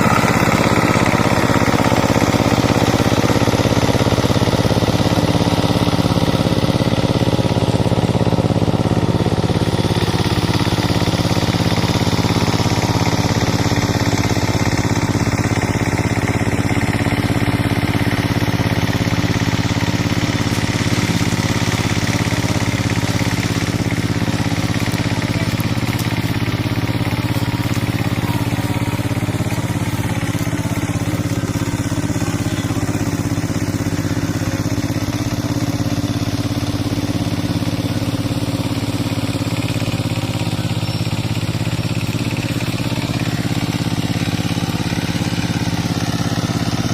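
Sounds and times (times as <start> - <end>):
tiller diesel engine running: 0.0 - 46.9.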